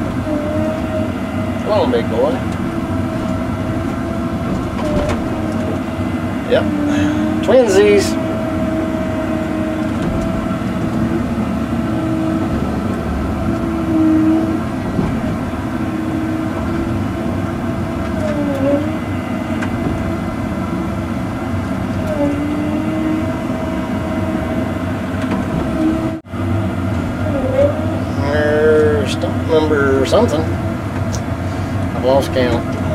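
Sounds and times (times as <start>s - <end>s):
excavator diesel engine and hydraulics: 0.0s - 32.9s.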